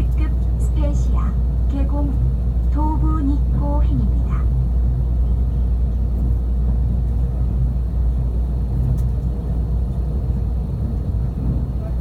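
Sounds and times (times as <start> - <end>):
electric train rumble inside cabin: 0.0 - 12.0.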